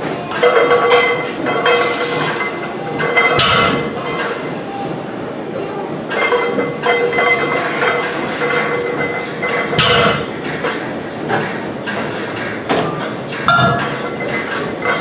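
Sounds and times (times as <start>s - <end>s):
barbell plates clanking: 0.3s - 4.5s, 6.1s - 15.0s.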